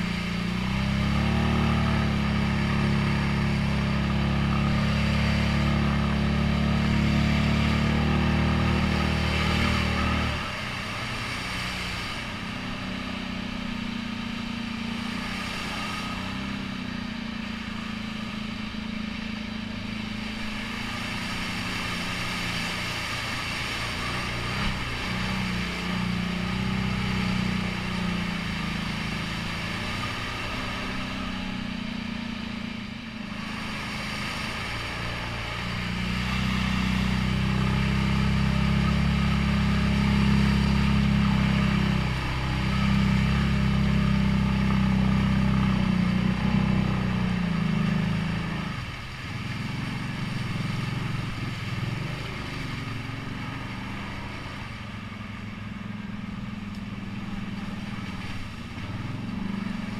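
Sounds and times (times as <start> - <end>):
quad bike engine: 0.0 - 59.9.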